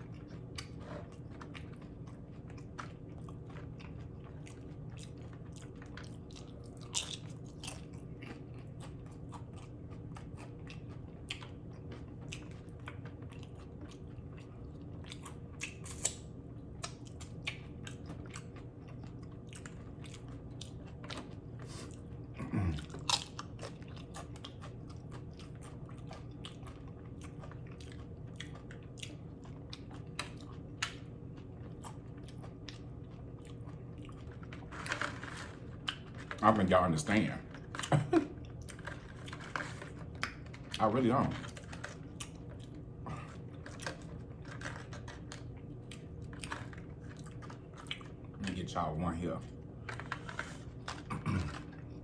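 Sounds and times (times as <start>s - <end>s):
chewing and crunching chips: 0.0s - 52.0s.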